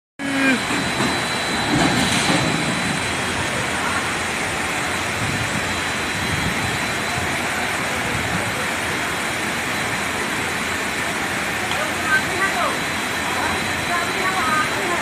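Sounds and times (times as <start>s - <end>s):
floodwater rushing: 0.2s - 15.0s.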